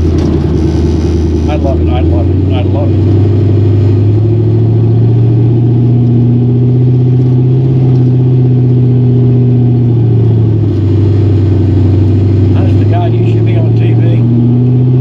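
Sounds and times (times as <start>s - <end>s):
car engine pulling: 0.0s - 15.0s.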